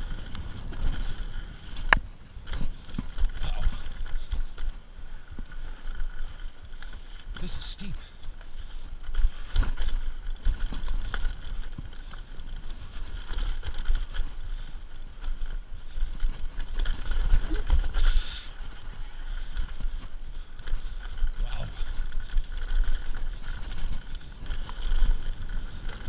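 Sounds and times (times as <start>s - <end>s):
bike rattles and knocks: 0.0s - 26.0s
bike tyres on dirt trail: 0.0s - 26.0s
wind rumbling on microphone: 0.0s - 26.0s.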